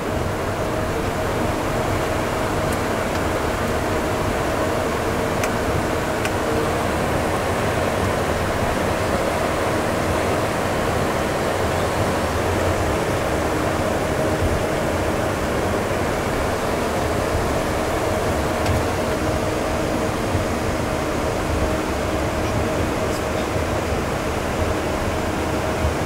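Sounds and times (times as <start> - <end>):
air-conditioning airflow hiss: 0.0 - 26.0
jet engines idling hum: 0.0 - 26.0.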